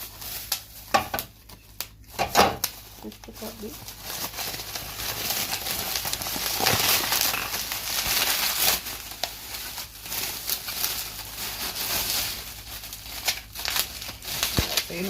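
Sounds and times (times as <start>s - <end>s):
packaging crinkling: 0.0s - 15.0s.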